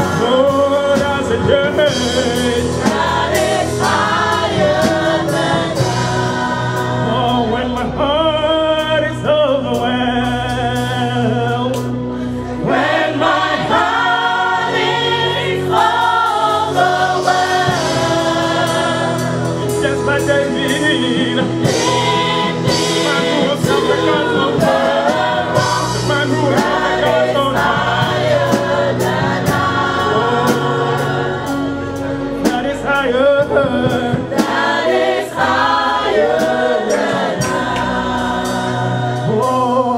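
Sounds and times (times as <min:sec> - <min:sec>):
choir singing worship song: 0:00.0 - 0:39.9
live band with drums and bass: 0:00.0 - 0:39.9.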